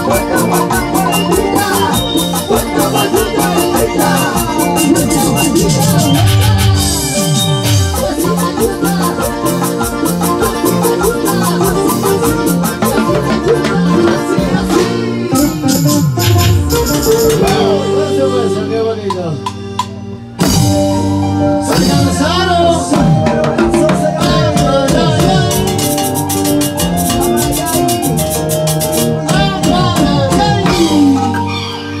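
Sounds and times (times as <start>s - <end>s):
live band music: 0.0s - 32.0s
rapid high percussion: 0.0s - 32.0s.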